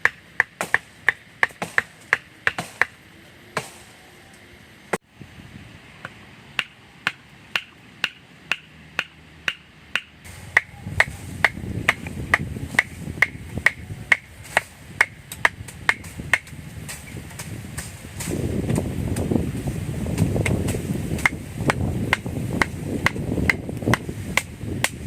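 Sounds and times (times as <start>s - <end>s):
low rushing noise: 0.9s - 25.0s.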